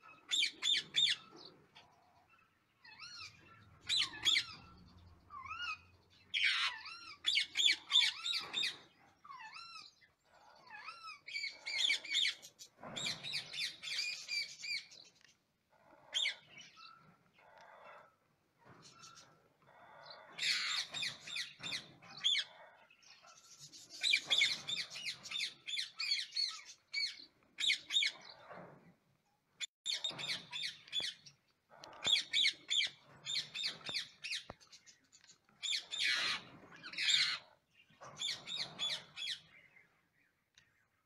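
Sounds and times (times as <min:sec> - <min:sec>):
parakeets chattering: 0:00.0 - 0:15.0, 0:15.7 - 0:28.6, 0:29.9 - 0:39.8.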